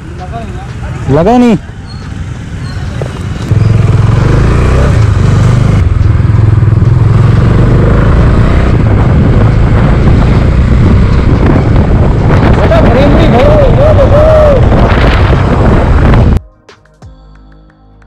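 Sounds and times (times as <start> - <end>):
motorcycle engine pulling away: 1.8 - 16.4.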